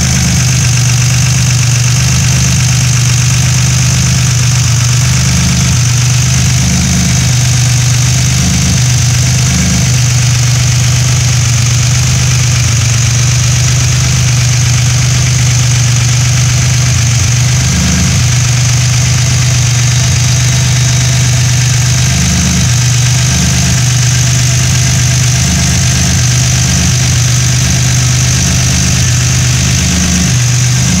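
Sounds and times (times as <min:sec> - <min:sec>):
race car engine idling: 0:00.0 - 0:31.0.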